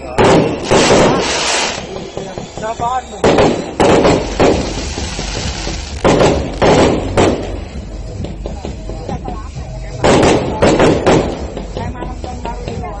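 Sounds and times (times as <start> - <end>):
fireworks bangs: 0.0 - 9.2, 10.0 - 12.8.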